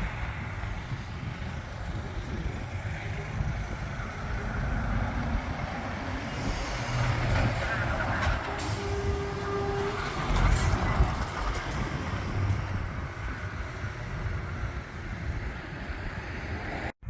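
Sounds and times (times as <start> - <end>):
lorry diesel engine driving by: 0.0 - 16.9.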